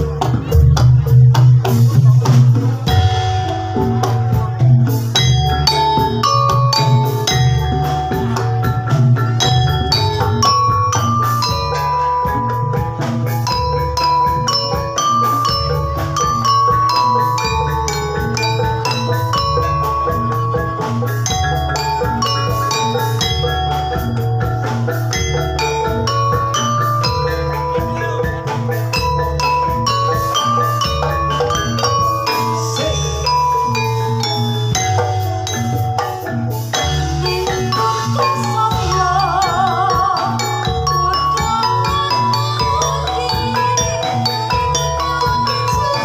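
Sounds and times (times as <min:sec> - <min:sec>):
gamelan metallophones ringing: 0:00.0 - 0:46.0.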